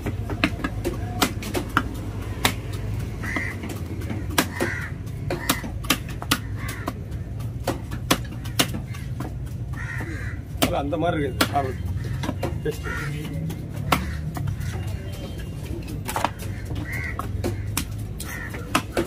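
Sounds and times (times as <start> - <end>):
knife chopping on wooden block: 0.0 - 12.6, 13.2 - 15.0, 16.0 - 19.0
crows cawing: 1.8 - 15.4, 16.1 - 19.0.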